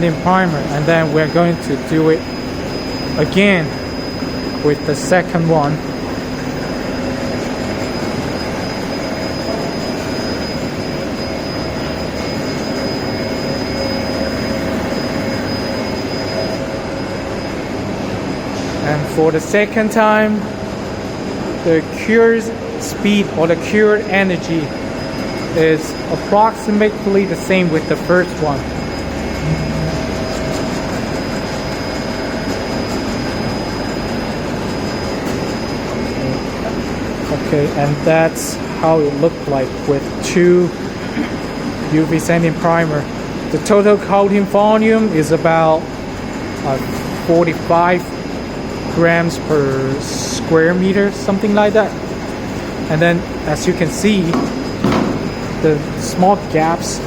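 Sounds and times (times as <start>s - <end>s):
coating line machinery running: 0.0s - 57.0s
faint high machine whine: 0.0s - 57.0s.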